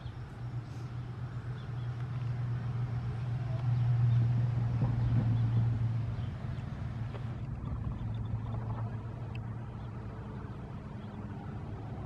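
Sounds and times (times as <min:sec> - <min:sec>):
vehicle engine rumble passing: 0:00.0 - 0:12.0.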